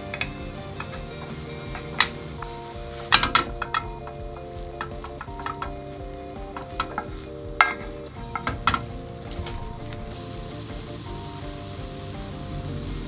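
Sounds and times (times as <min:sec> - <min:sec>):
spatula tapping and scraping pan: 0:00.0 - 0:12.0
egg sizzling in oil: 0:00.0 - 0:13.0.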